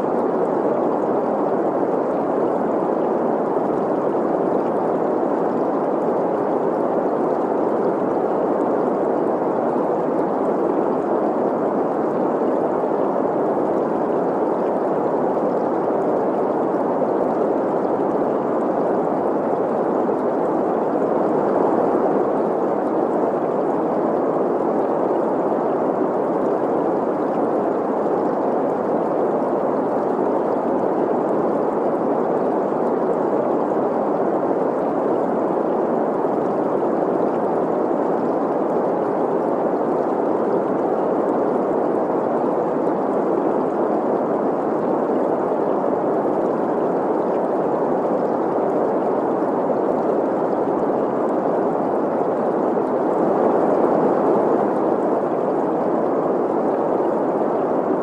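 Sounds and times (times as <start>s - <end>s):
flowing stream: 0.0s - 58.0s.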